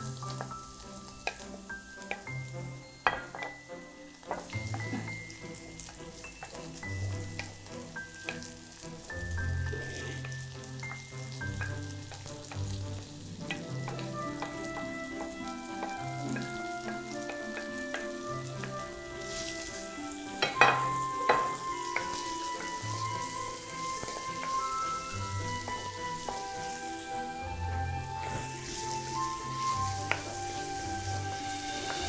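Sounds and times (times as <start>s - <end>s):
onion and garlic sizzling in oil: 0.0s - 32.0s
soft background music: 0.0s - 32.0s
wooden spoon stirring in pot: 0.0s - 32.0s.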